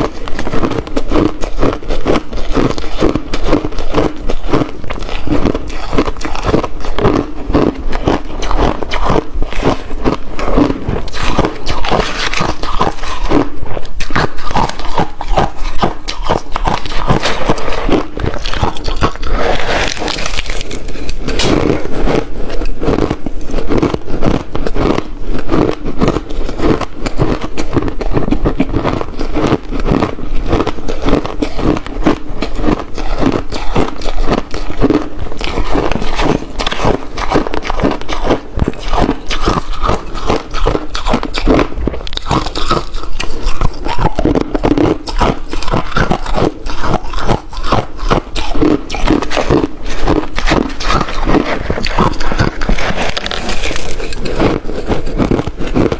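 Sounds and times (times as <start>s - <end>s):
crunching ice: 0.0s - 55.9s.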